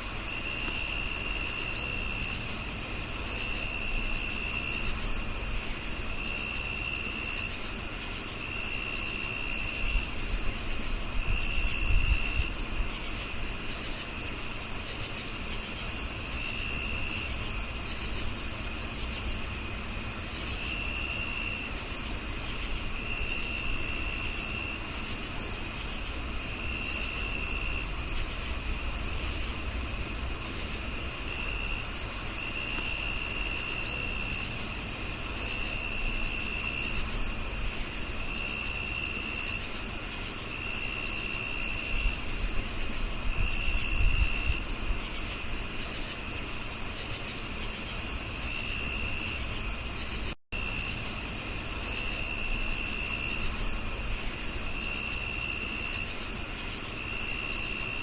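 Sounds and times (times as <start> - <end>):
crickets trilling: 0.0 - 58.0
lower cricket trill: 0.0 - 58.0
repeating cricket chirp: 0.0 - 58.0.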